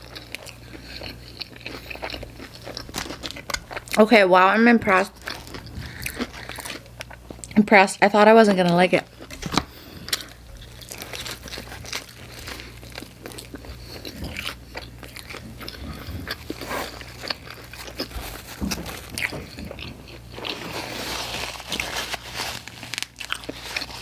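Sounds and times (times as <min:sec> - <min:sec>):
chewing crunchy food: 0:00.0 - 0:07.6, 0:08.6 - 0:24.0
low steady hum: 0:00.0 - 0:24.0.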